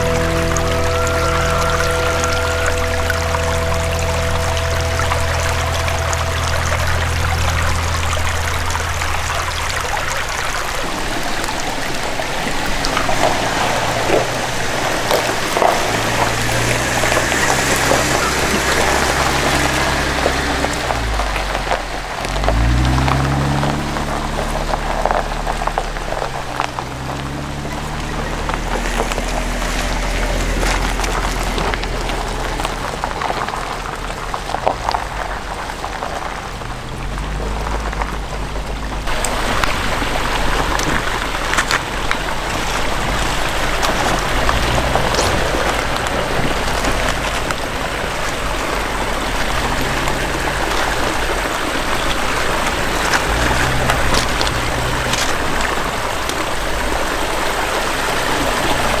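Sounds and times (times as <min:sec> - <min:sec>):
creek water running over rocks: 0:00.0 - 0:59.0.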